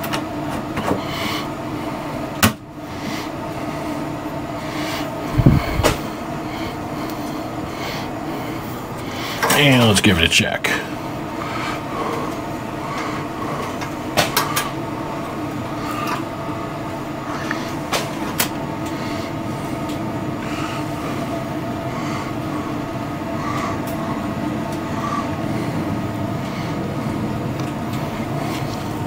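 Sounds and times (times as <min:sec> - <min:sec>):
machinery hum: 0:00.0 - 0:29.0.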